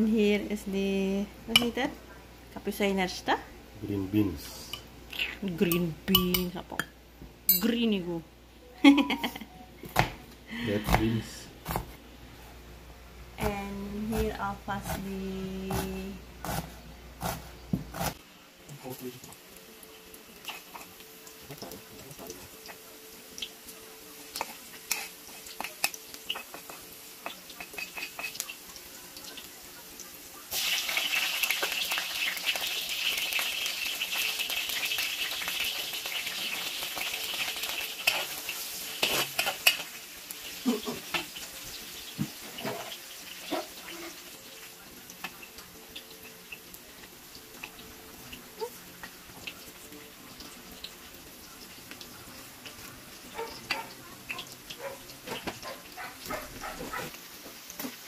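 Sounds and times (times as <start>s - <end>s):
food sizzling in a pan: 0.0s - 8.2s, 17.2s - 58.0s.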